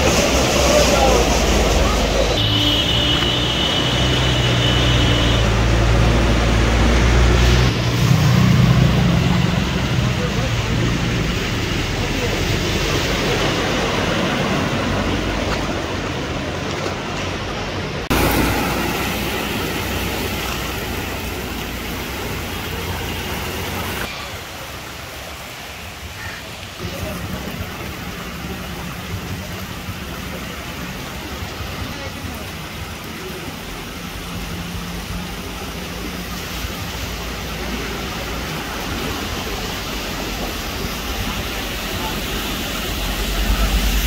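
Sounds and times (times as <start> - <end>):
traffic rushing hiss: 0.0 - 44.0
water sloshing around wheels: 0.0 - 44.0.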